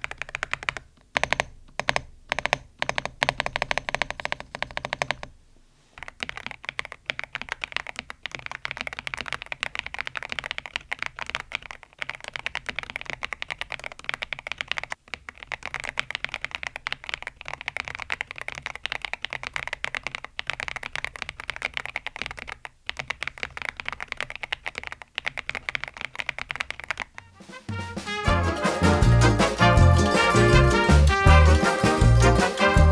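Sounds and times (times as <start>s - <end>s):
mechanical keyboard typing: 0.0s - 5.3s, 6.0s - 27.3s.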